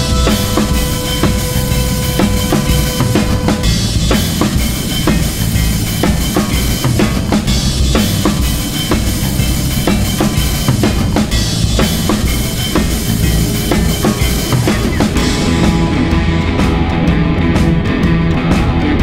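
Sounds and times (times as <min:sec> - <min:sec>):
background music with drum beat: 0:00.0 - 0:19.0.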